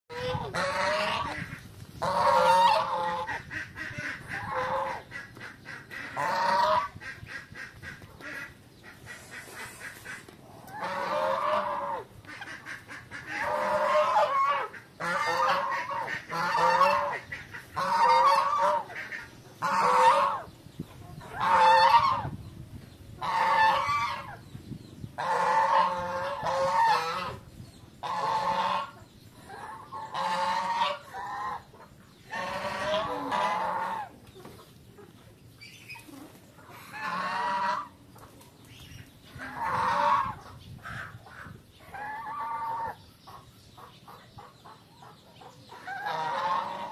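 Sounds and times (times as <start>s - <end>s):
geese honking: 0.1s - 20.5s, 21.2s - 22.3s, 23.2s - 24.4s, 25.2s - 34.2s, 36.8s - 38.0s, 39.3s - 43.0s, 45.8s - 46.9s.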